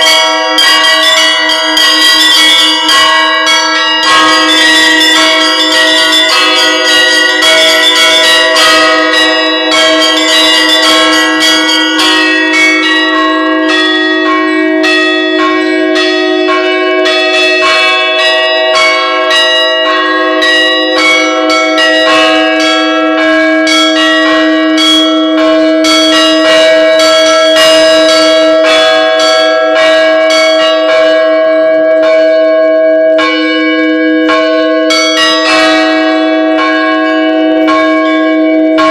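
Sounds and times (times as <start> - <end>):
bells pealing: 0.0 - 38.9.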